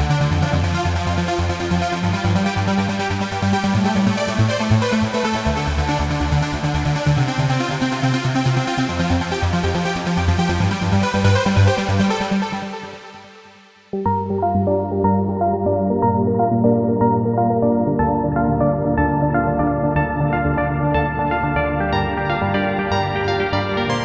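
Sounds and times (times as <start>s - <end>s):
synth bass line: 0.0s - 12.8s, 14.0s - 24.0s
synthesizer pulsing sequence: 0.0s - 24.0s.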